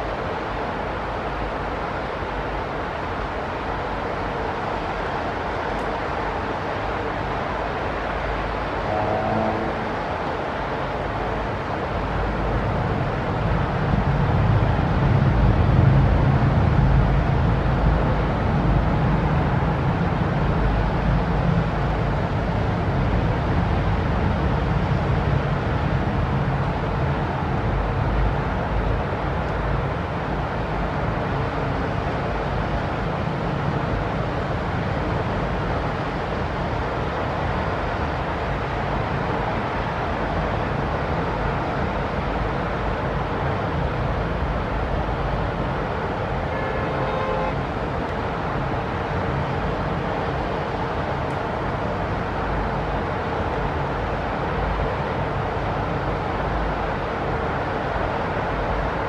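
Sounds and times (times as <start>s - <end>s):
distant city traffic rumble: 0.0s - 59.0s.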